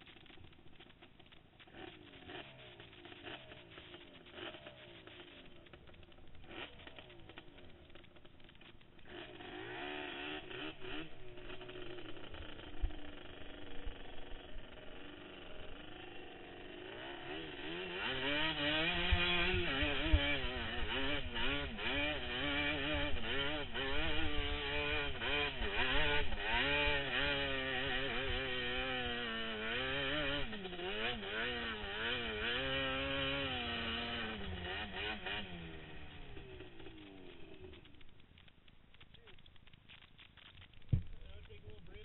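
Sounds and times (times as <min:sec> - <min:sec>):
quad engine revving: 0:00.1 - 0:38.5, 0:39.2 - 0:42.0.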